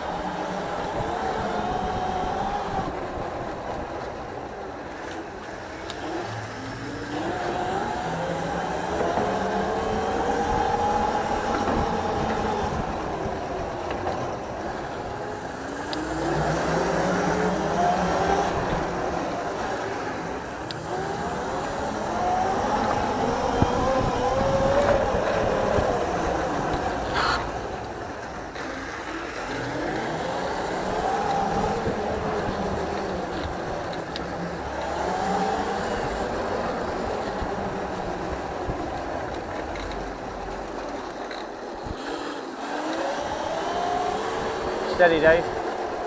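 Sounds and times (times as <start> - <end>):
engine revving: 0.0 - 46.0.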